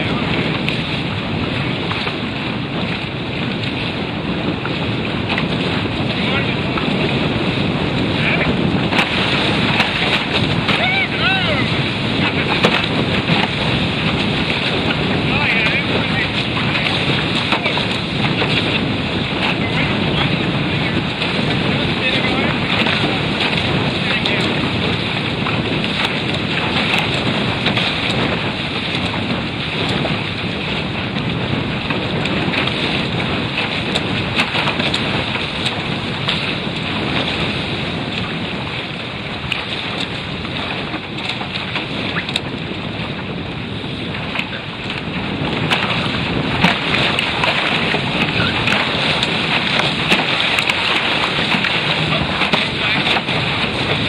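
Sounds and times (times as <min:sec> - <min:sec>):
water rushing along boat hull: 0:00.0 - 0:54.0
wind buffeting microphone: 0:00.0 - 0:54.0.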